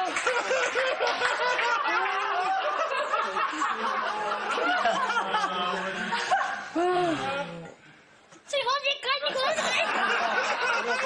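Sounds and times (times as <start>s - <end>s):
group of people laughing: 0.0s - 7.4s, 9.3s - 11.0s.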